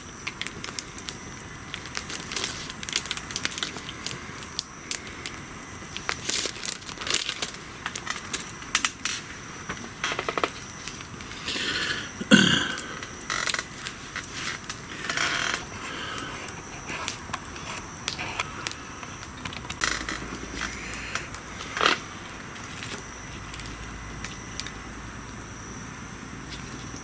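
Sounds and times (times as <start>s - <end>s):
bonfire crackling: 0.0s - 27.0s.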